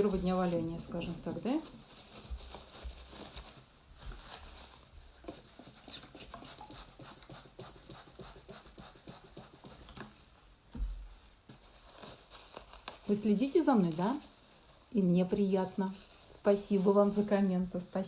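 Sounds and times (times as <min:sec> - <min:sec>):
hand rubbing wet soapy wool: 0:00.0 - 0:18.0.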